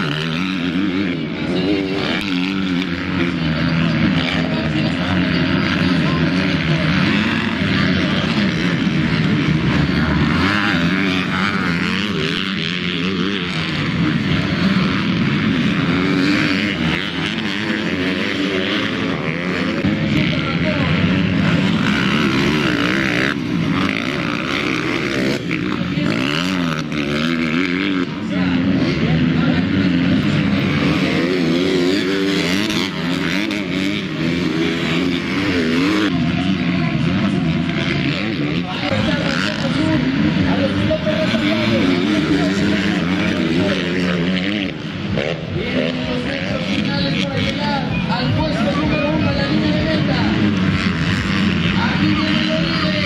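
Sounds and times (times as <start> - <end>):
motocross bike engines revving: 0.0 - 53.0.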